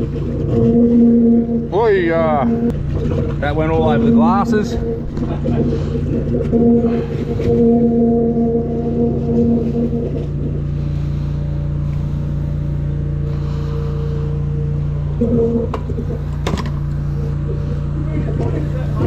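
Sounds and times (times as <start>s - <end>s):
drain jetter engine hum: 0.0s - 19.0s.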